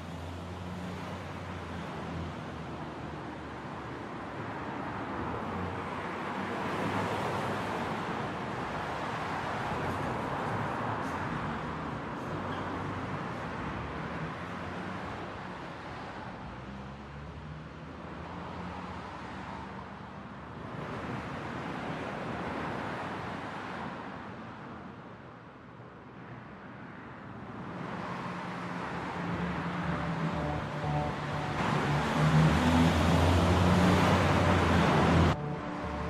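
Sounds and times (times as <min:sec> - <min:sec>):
car engine hum and tyre noise: 0:00.0 - 0:36.0
rushing road noise: 0:00.0 - 0:36.0.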